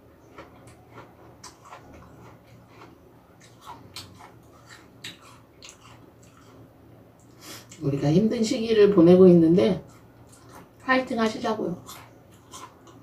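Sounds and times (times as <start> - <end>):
crunching and chewing apple: 0.0 - 7.9, 9.6 - 13.0.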